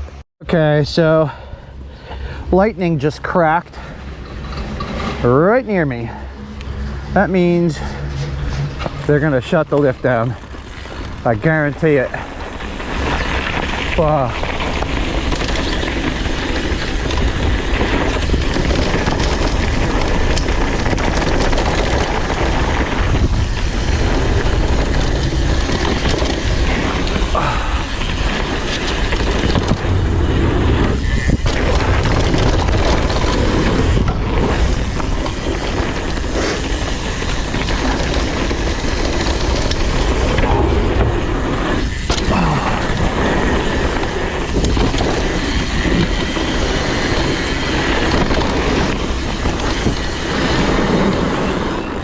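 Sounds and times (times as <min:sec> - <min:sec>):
bike rattling on trail: 0:00.0 - 0:52.0
wind on microphone: 0:03.9 - 0:52.0.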